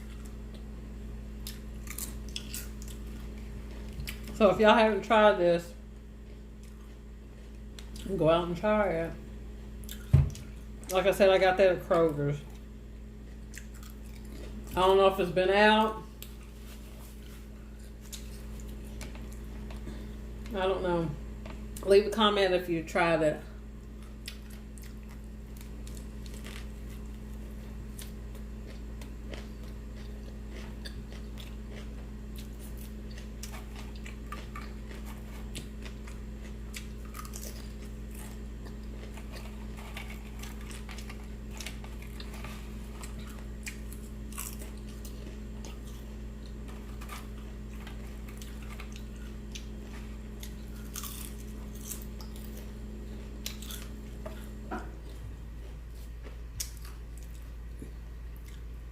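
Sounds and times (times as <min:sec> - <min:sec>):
person chewing with crunches: 0:00.0 - 0:04.5, 0:05.8 - 0:08.2, 0:09.6 - 0:11.0, 0:12.4 - 0:15.0, 0:16.0 - 0:20.6, 0:23.7 - 0:58.9
steady low hum: 0:00.0 - 0:58.9.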